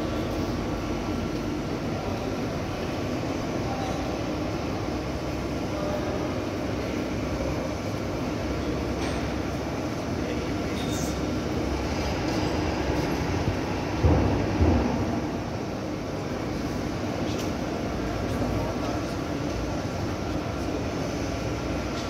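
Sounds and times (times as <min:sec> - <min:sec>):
factory machinery hum and rumble: 0:00.0 - 0:22.0.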